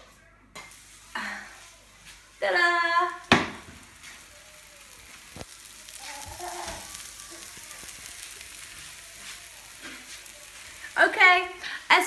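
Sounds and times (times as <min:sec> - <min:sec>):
batter sizzling in frying pan: 0:00.6 - 0:12.0
faint voices: 0:01.1 - 0:12.0.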